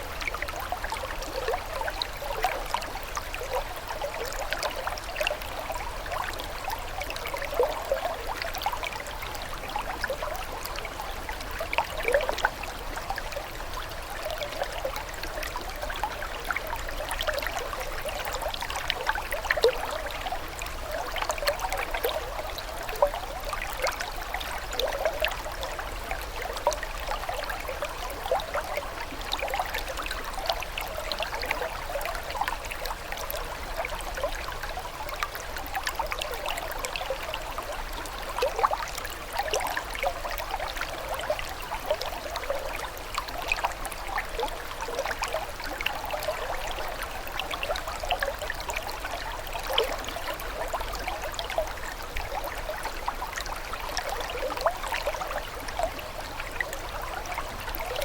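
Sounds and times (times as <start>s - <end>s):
water trickling and gurgling: 0.0s - 58.0s.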